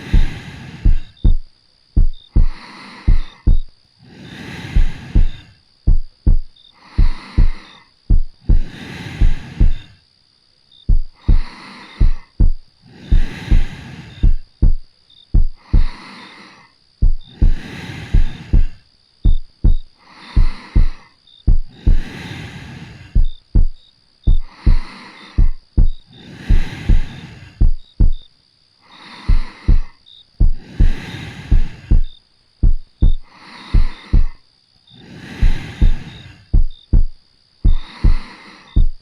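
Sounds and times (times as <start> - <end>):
heartbeat thumping: 0.0 - 3.7, 4.8 - 9.9, 10.9 - 16.0, 17.0 - 22.1, 23.1 - 28.3, 29.3 - 34.4, 35.4 - 39.0
soft slow breathing: 0.0 - 10.2, 10.9 - 39.0.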